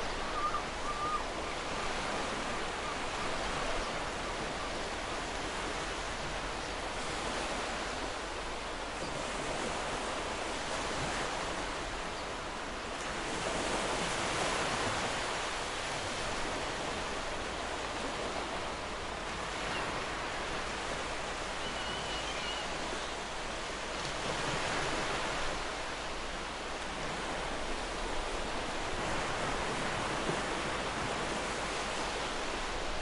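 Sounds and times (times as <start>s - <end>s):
ocean waves washing ashore: 0.0s - 33.0s.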